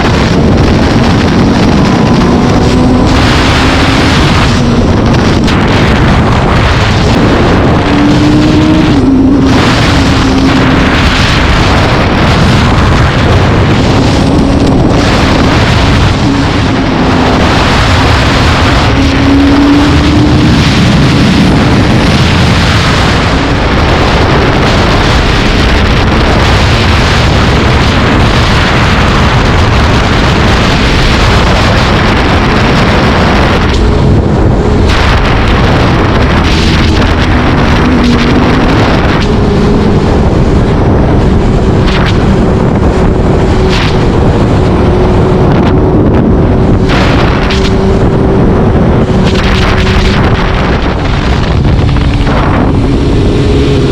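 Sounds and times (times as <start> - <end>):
vehicle engine running: 0.0 - 53.9
wind noise on microphone: 0.0 - 53.9.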